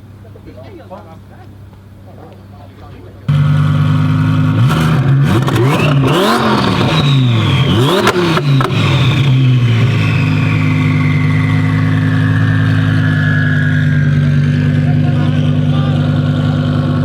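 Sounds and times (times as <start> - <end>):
exhaust cracks: 1.0 - 17.0
high whine: 3.3 - 17.0
sports car engine revving: 3.3 - 17.0.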